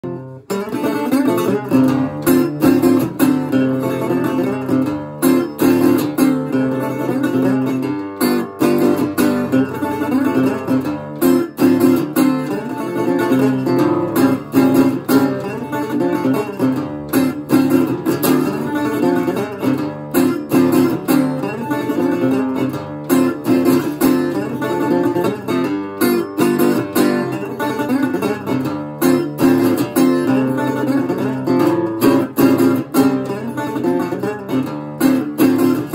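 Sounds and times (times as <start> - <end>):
resonator guitar blues riffs: 0.0 - 35.9.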